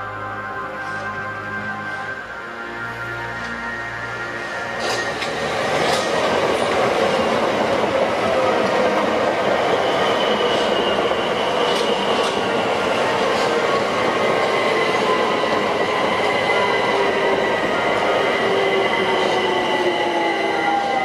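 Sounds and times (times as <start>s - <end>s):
background music: 0.0s - 21.0s
train rumbling past: 0.8s - 21.0s.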